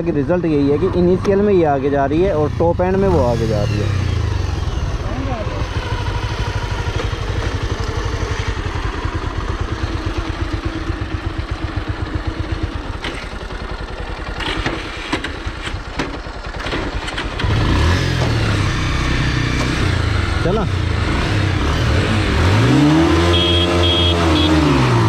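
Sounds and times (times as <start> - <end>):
motorcycle engines idling: 0.0 - 21.6.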